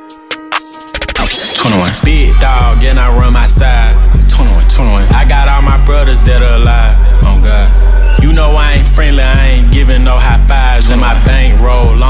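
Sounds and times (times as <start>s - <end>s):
hip hop beat: 0.0s - 12.0s
heavy deep bass: 1.5s - 12.0s.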